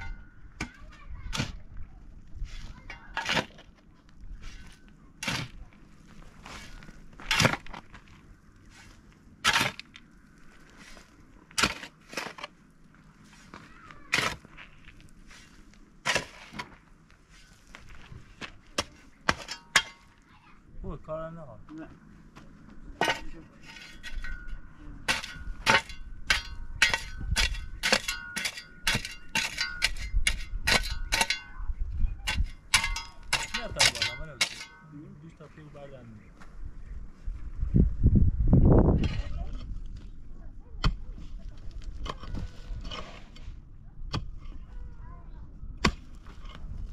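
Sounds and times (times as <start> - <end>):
shovel scraping stony soil: 0.0 - 20.2, 23.0 - 34.9, 38.9 - 40.1, 40.8 - 44.8, 45.8 - 46.9.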